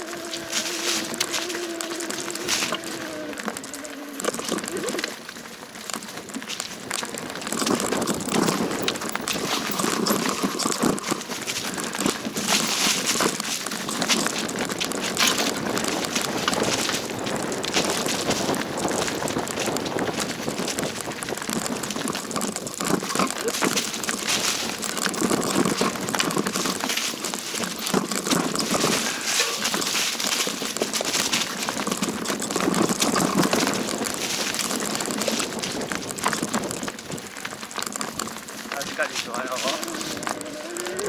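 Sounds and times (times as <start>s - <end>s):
crunching over rough trail: 0.0s - 41.0s
small crackles and clicks: 0.0s - 41.0s.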